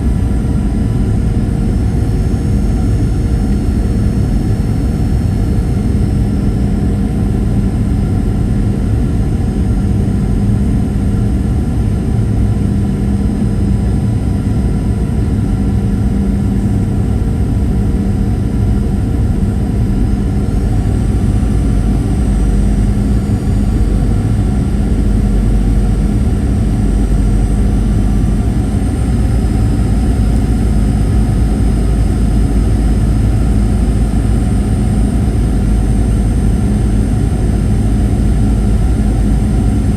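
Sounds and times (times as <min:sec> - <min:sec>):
airflow rush in cabin: 0:00.0 - 0:39.9
jet engines droning: 0:00.0 - 0:39.9.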